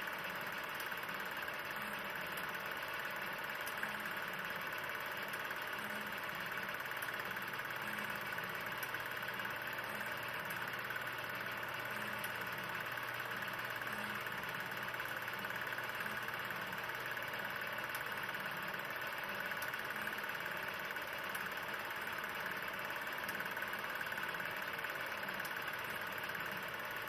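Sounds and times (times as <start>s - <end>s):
faint projector ticks: 0.0s - 27.0s
film projector whirring: 0.0s - 27.0s.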